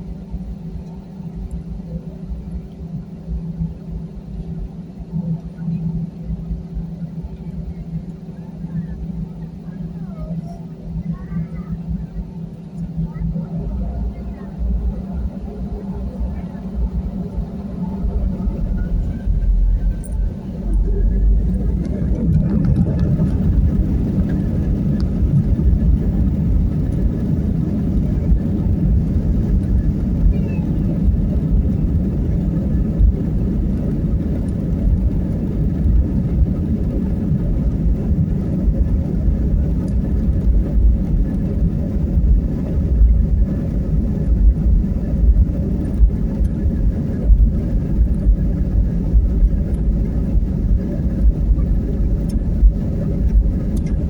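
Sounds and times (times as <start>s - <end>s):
airplane engine rumble: 0.0s - 54.0s.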